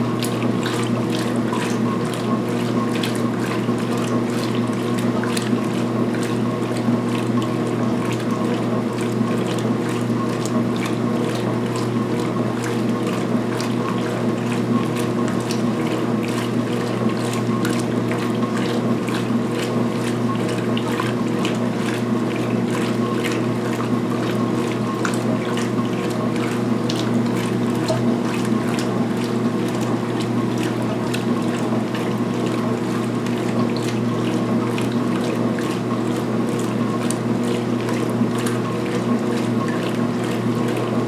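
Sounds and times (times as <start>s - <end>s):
clicks and splashes: 0.0s - 41.0s
washing machine motor hum: 0.0s - 41.0s
water and towels sloshing: 0.0s - 41.0s.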